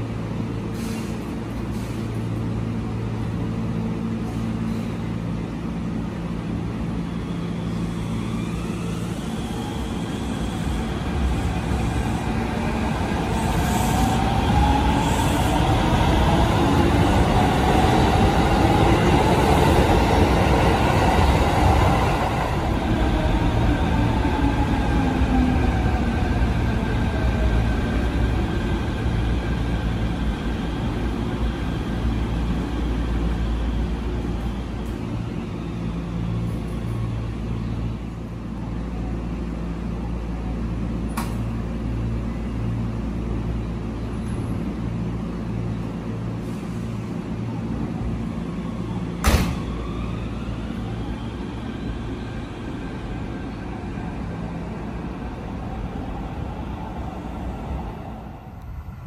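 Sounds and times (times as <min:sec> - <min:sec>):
low train hum: 0:00.0 - 0:59.0.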